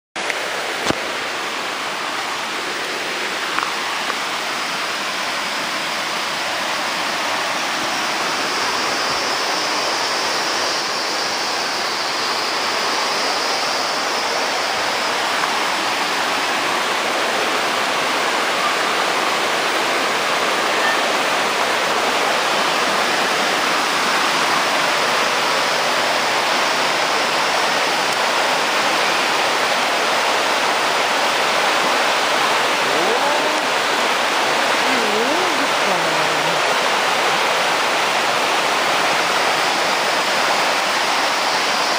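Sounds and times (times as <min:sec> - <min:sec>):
flowing water: 0:00.2 - 0:41.9.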